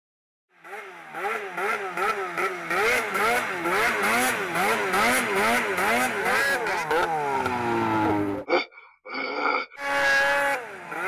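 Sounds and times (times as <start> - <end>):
snowmobile engine running hard: 0.6 - 8.4, 9.8 - 11.0.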